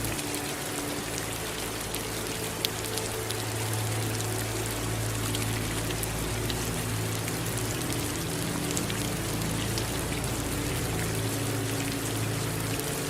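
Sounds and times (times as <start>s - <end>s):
low sustained tones: 0.0s - 13.0s
running water: 0.0s - 13.0s
steady rain: 0.0s - 13.0s.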